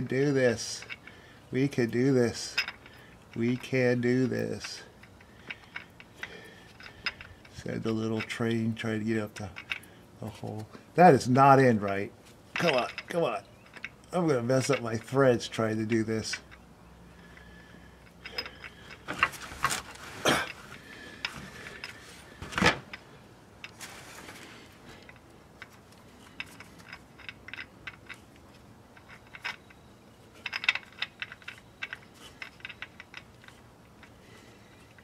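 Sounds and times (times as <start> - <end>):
metal tools clicking and clinking: 0.0 - 9.9, 11.2 - 23.0, 24.9 - 35.0.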